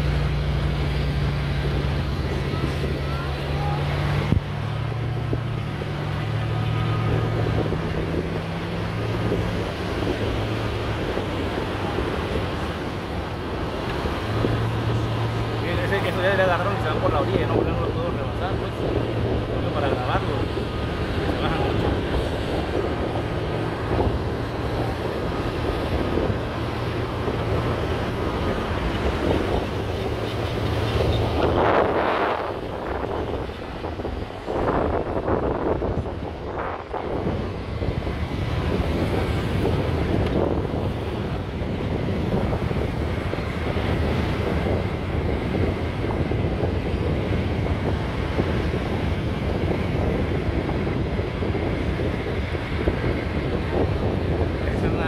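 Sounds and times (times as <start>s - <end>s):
vehicle engine drone: 0.0s - 55.0s
wind buffeting microphone: 0.0s - 55.0s.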